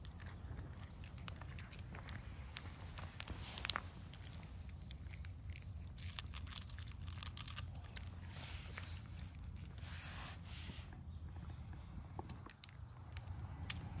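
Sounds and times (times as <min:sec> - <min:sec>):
cat chewing food: 0:00.0 - 0:14.0.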